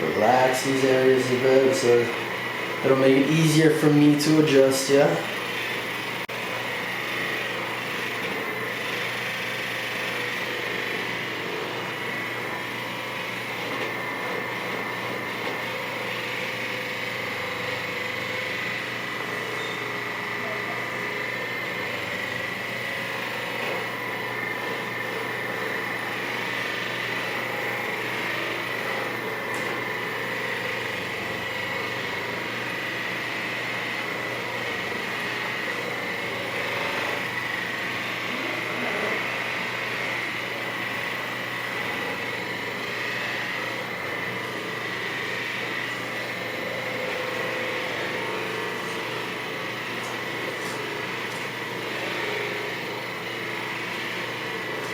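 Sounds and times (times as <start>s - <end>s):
massage gun motor whine: 0.0s - 54.9s.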